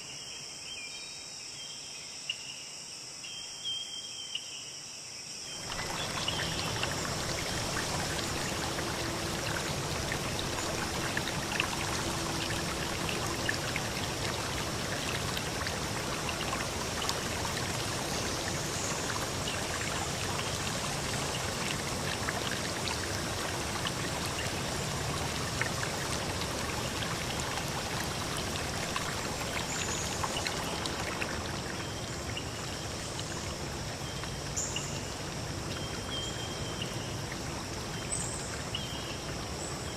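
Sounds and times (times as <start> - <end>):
flowing stream water: 5.5 - 39.9.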